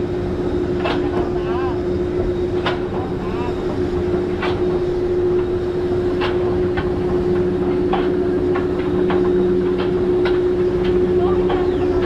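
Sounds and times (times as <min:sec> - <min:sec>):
lift drive mechanical hum: 0:00.0 - 0:12.0.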